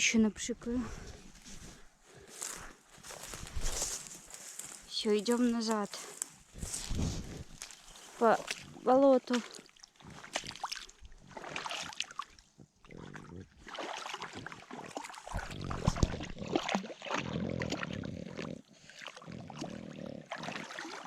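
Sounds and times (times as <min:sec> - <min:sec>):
footsteps sloshing through water: 0:00.8 - 0:21.0.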